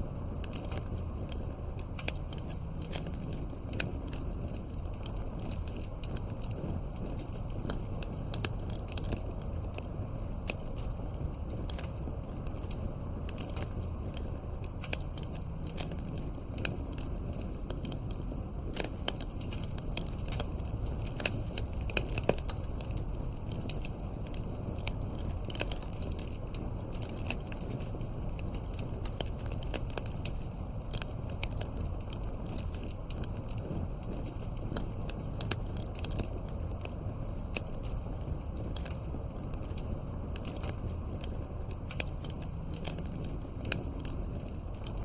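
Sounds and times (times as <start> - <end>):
burning wood crackling and popping: 0.0 - 45.0
rush of campfire flames: 0.0 - 45.0.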